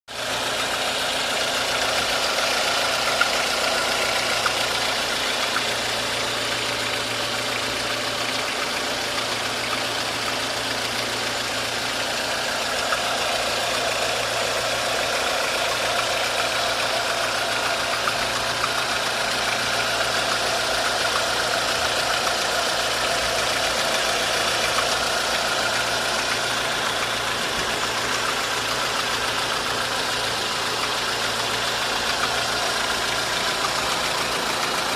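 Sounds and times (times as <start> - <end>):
engine idling with abnormal noise: 0.1 - 34.9.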